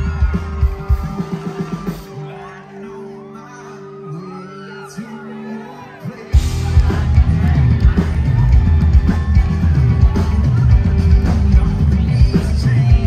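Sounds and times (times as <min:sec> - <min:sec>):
live country band playing: 0:00.0 - 0:13.0.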